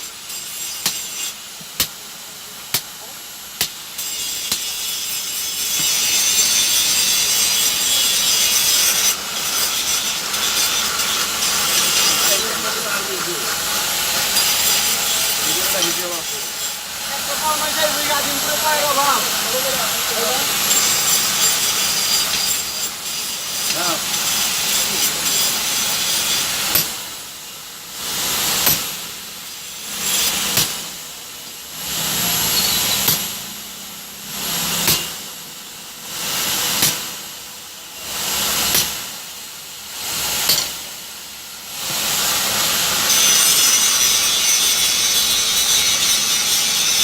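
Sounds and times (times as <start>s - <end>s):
noisy work strokes with sharp click: 0.0s - 47.0s
steady hissing noise: 0.0s - 47.0s.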